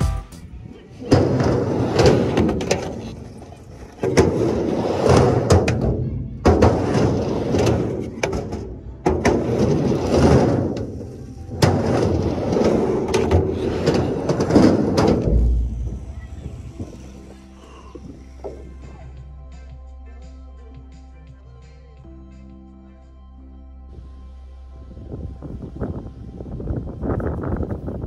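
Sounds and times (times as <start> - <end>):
skateboard wheels rolling on concrete: 0.0 - 19.8, 25.0 - 28.0.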